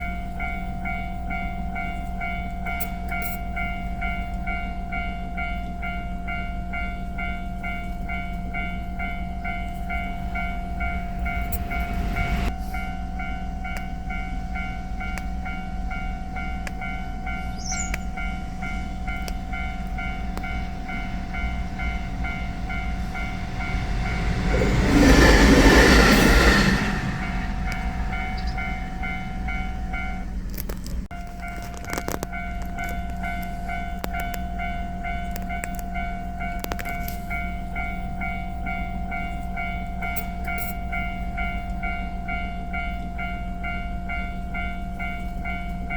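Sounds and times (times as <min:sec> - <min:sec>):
electric train passing: 0:00.0 - 0:45.9
level-crossing alarm dinging: 0:00.0 - 0:45.9.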